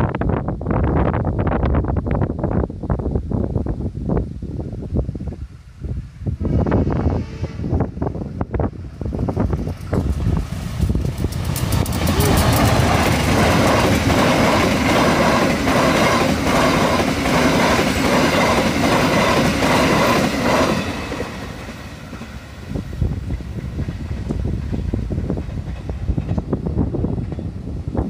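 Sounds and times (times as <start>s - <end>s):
train engine rumble: 0.1s - 28.0s.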